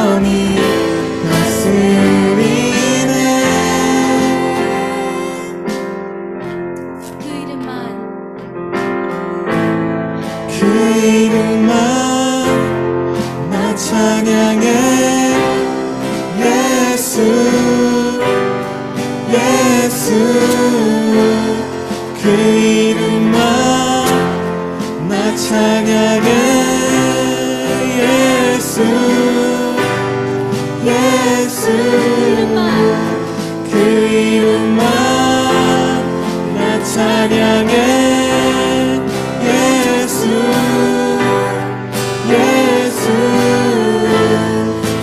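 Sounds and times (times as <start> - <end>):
worship team singing: 0.0 - 5.8, 9.3 - 45.0
band with guitar: 0.0 - 45.0.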